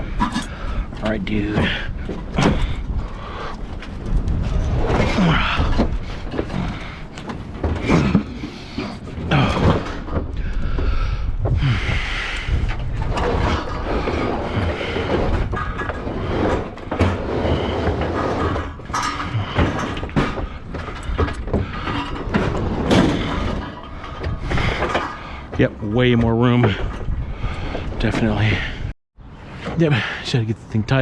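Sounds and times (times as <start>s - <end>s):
wind rumble on microphone: 0.0s - 29.6s.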